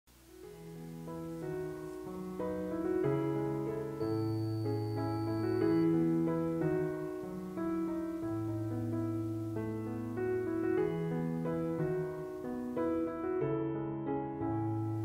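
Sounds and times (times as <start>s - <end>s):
slow piano piece: 0.1s - 15.0s.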